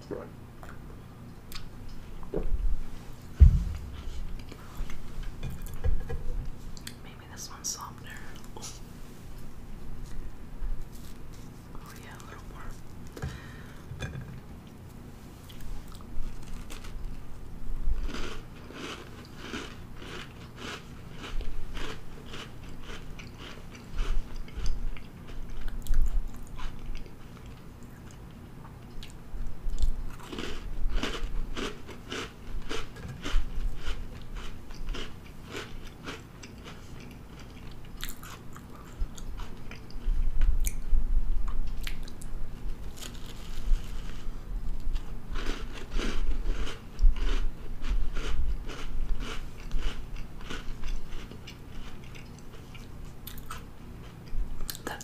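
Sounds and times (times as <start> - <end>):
crunchy chewing of cookies: 9.4 - 13.9, 14.6 - 40.8, 41.5 - 55.0.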